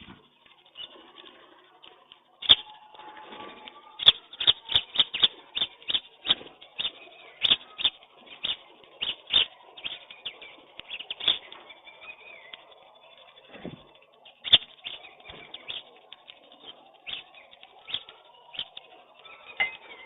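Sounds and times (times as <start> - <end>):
birds pecking at grain: 0.0 - 20.0.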